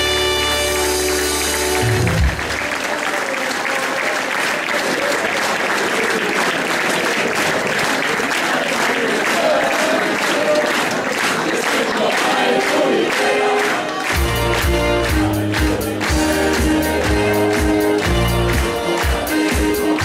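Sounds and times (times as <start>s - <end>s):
crowd clapping: 0.0s - 20.0s.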